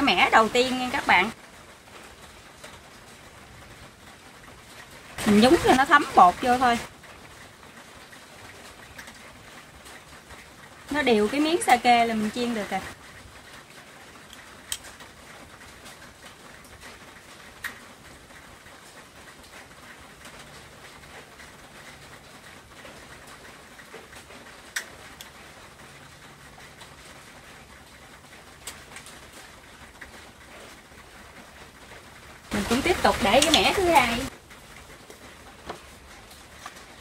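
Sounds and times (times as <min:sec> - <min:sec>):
food frying in oil: 0:00.0 - 0:37.0.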